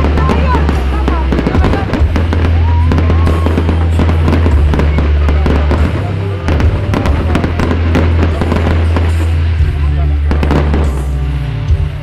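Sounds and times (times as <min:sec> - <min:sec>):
fireworks popping and crackling: 0:00.0 - 0:12.0
loud music with deep bass: 0:00.0 - 0:12.0.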